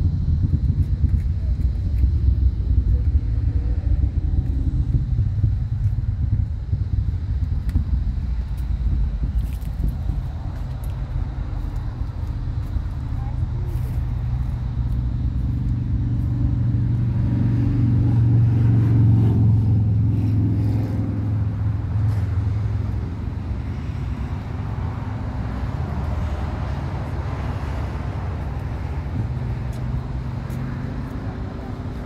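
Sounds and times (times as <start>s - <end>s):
distant rocket rumble: 0.0s - 32.0s.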